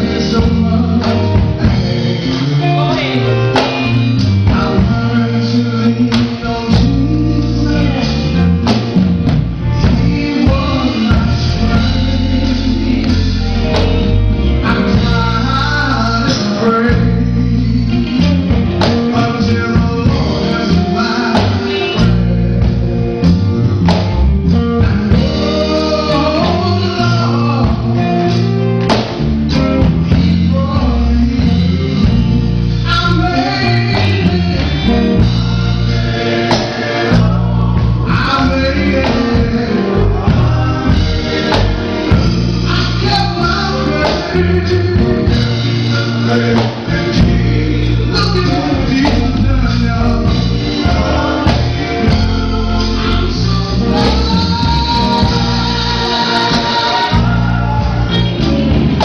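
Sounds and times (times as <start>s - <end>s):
band playing: 0.0s - 59.0s
bass: 0.0s - 59.0s
man singing gospel song: 0.0s - 59.0s.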